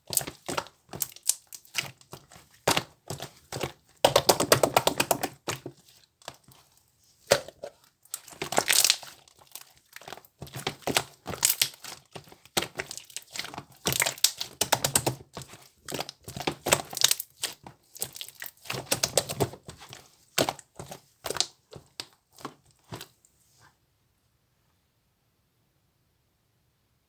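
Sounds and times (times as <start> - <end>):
crinkling and crackling: 0.0 - 23.8.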